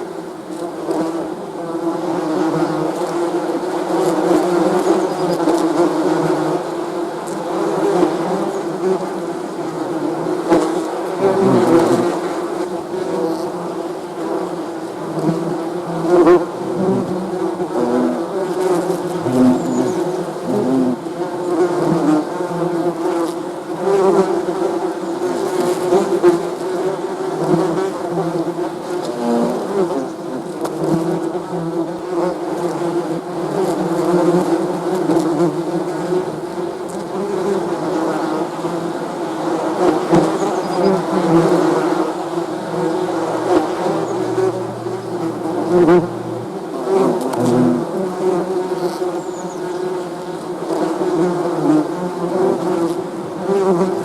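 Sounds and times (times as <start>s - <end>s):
bees buzzing: 7.6s - 54.0s.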